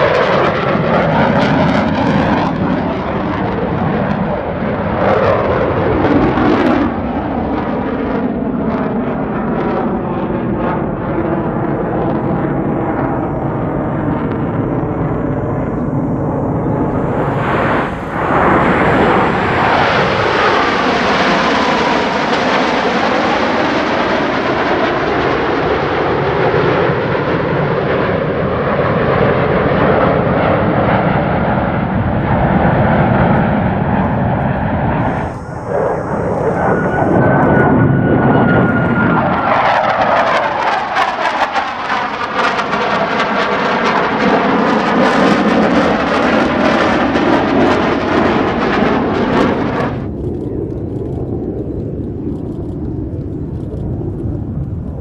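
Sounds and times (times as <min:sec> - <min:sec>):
high jet whine: 0:00.0 - 0:55.0
jets flying past: 0:00.0 - 0:55.0.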